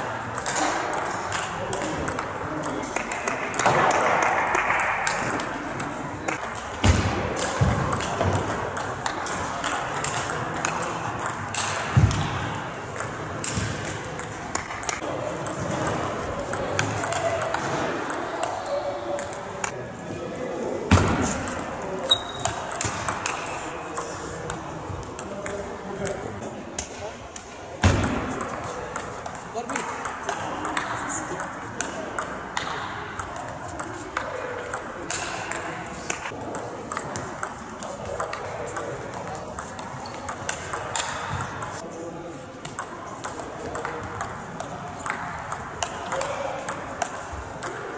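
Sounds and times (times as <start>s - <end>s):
murmur of voices: 0.0s - 47.9s
table tennis balls clicking: 0.3s - 19.8s, 20.9s - 26.3s, 27.8s - 41.8s, 42.6s - 47.9s.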